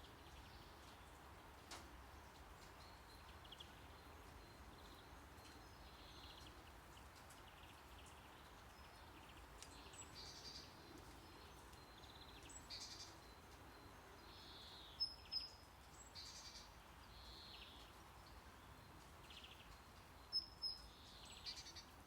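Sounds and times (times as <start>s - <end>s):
faint nature ambience: 0.0s - 22.0s.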